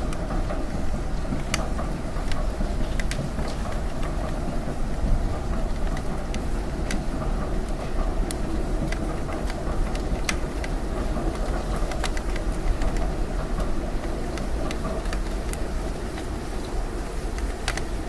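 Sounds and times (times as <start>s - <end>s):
raindrops ticking on window: 0.0s - 18.0s.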